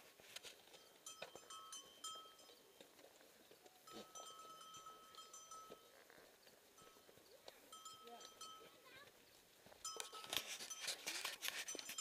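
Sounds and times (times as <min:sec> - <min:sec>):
goat bells ringing faintly: 0:00.0 - 0:12.0
light taps of hooves: 0:00.0 - 0:12.0.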